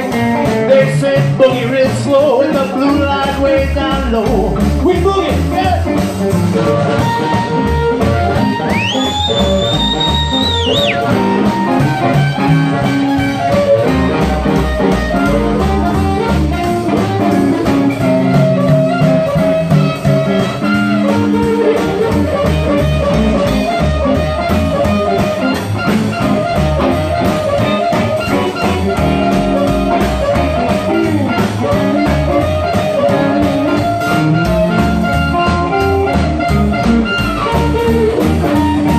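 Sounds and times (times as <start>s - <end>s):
blues band playing: 0.0s - 38.9s
amplified blues harmonica: 5.4s - 38.9s.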